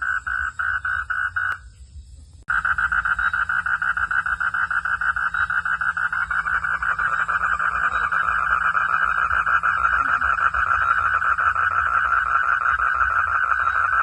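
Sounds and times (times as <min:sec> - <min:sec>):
frogs calling in chorus: 0:00.0 - 0:01.8, 0:02.5 - 0:14.0.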